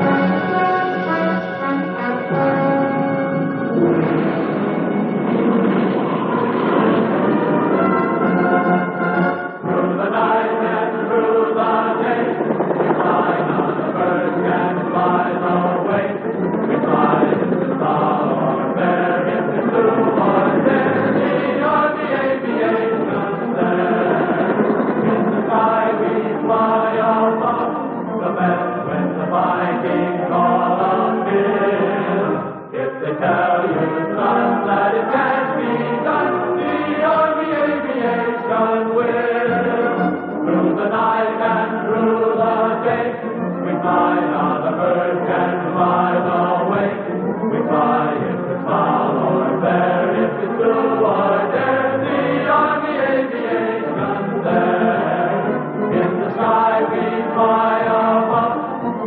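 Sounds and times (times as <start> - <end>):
choir singing held notes: 0.0 - 59.0.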